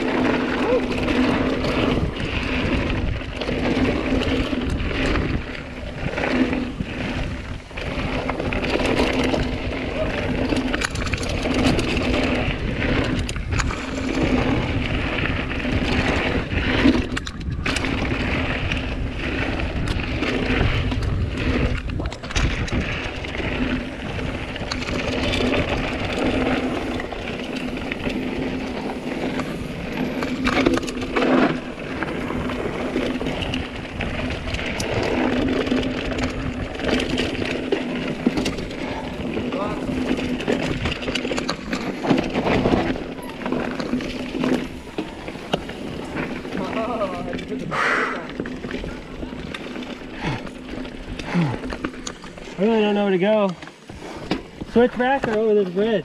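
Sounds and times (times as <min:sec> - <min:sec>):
bike rattling over bumps: 0:00.0 - 0:56.0
bike tyres rolling over dirt: 0:00.0 - 0:56.0.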